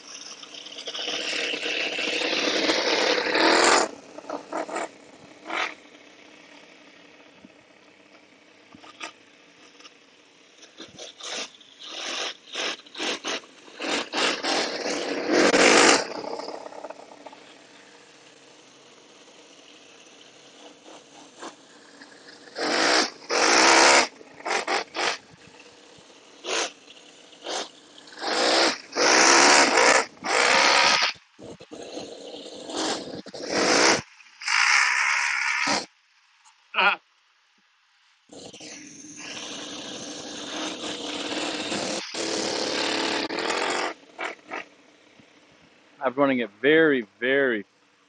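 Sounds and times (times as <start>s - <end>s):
model engine idling and revving: 0.0s - 35.9s, 38.3s - 48.0s.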